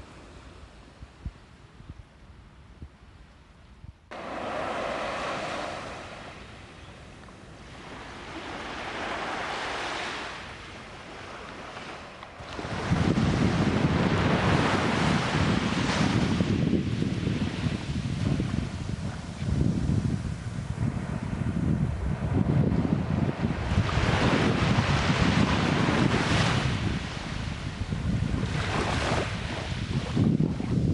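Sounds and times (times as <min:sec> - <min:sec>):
wind buffeting microphone: 0:03.8 - 0:30.9
waves washing onto sandy beach: 0:04.1 - 0:30.9.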